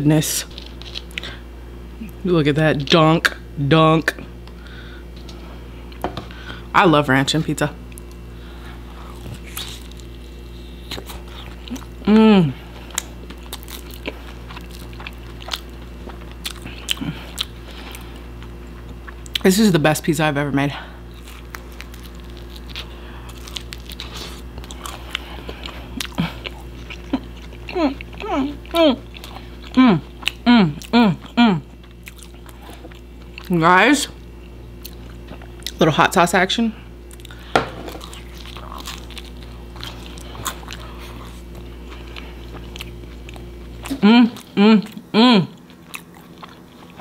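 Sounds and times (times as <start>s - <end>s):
steady low hum: 0.0s - 47.0s
chewing with crunches: 0.5s - 1.4s, 7.8s - 19.5s, 20.9s - 36.0s, 36.9s - 47.0s.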